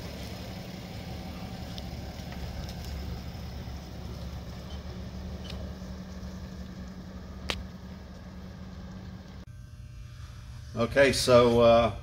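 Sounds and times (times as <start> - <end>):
low hum: 0.0 - 12.0
low outdoor rumble: 0.0 - 12.0.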